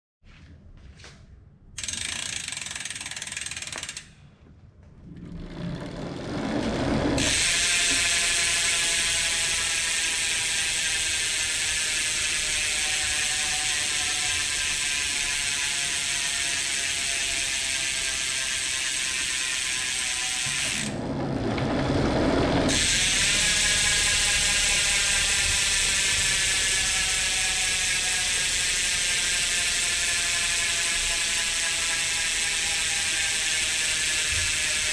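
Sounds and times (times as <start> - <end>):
bicycle hub ratchet buzz: 1.8 - 4.2, 5.8 - 21.0, 22.1 - 34.9.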